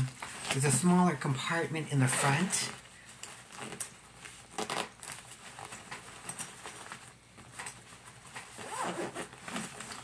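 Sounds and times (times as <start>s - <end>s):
fabric rustling and scraping: 0.0s - 10.0s.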